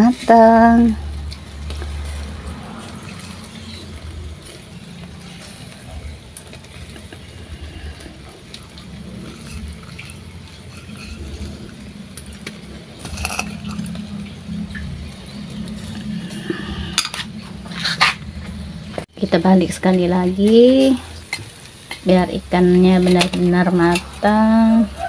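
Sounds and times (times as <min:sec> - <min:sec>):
fish sizzling on charcoal grill: 0:00.0 - 0:25.0.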